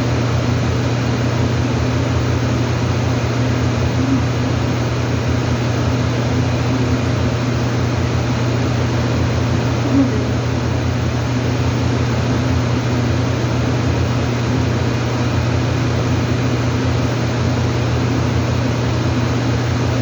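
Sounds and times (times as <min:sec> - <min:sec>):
machine hum with rushing noise: 0:00.0 - 0:20.0.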